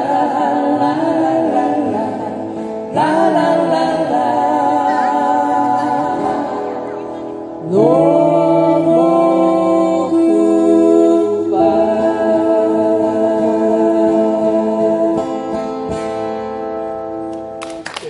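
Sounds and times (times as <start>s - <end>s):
voices singing in harmony: 0.0s - 15.8s
strummed acoustic guitars: 0.0s - 17.8s.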